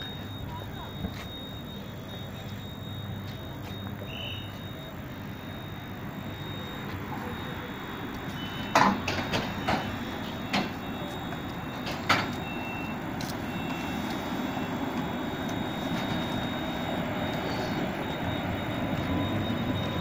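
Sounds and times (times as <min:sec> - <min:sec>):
train equipment humming: 0:00.0 - 0:20.0.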